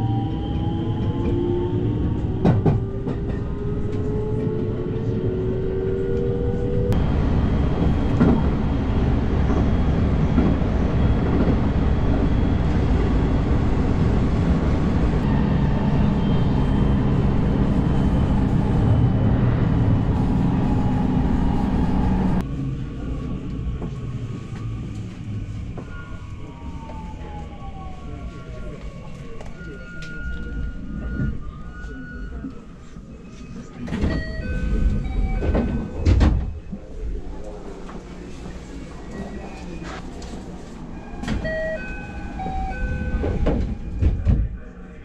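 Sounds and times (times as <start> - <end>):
train wheels rumbling on rail: 0.6 - 32.0, 33.7 - 44.6.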